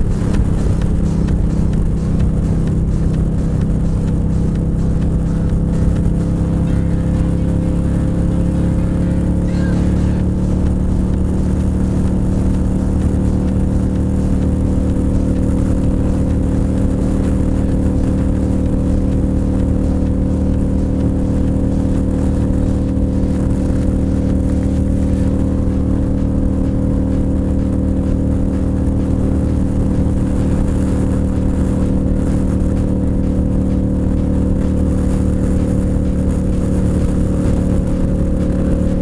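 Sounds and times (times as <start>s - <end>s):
motorcycle engine cruising: 0.0s - 39.0s
wind rush on microphone: 0.0s - 39.0s.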